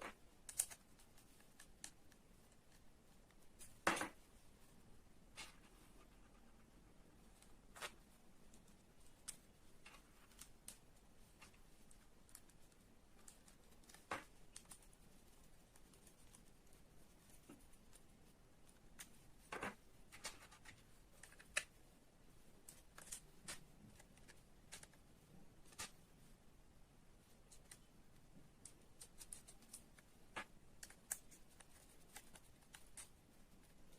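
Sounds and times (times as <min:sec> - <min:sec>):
small parts clicking and tapping: 0:00.0 - 0:04.2, 0:07.3 - 0:21.8, 0:22.5 - 0:26.0, 0:27.4 - 0:33.9.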